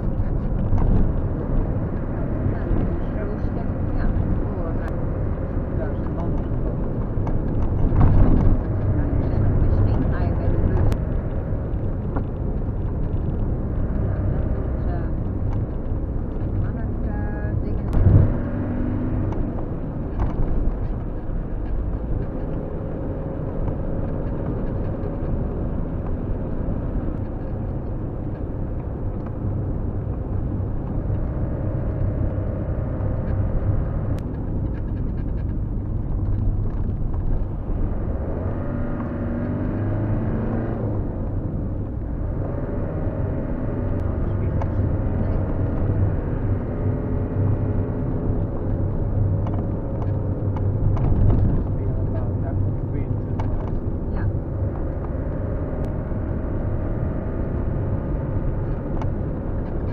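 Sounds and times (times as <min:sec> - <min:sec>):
road and engine noise in cabin: 0:00.0 - 0:59.9.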